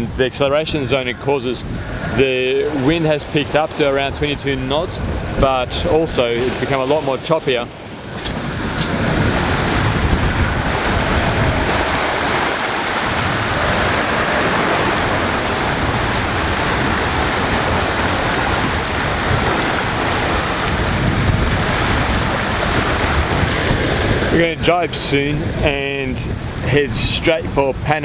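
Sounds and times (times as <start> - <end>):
waves rushing past boat: 0.0 - 28.0
wind buffeting microphone: 0.0 - 28.0.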